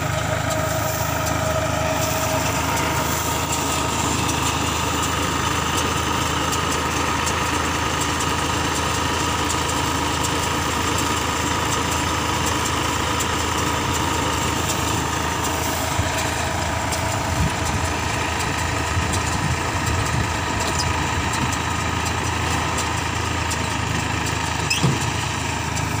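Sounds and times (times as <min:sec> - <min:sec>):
tractor and baler droning: 0:00.0 - 0:26.0.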